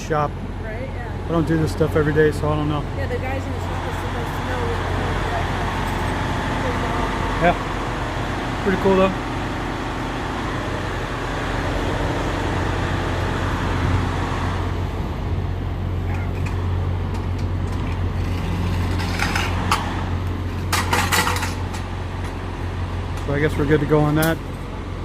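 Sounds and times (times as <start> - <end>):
diesel engine drone: 0.0 - 25.0.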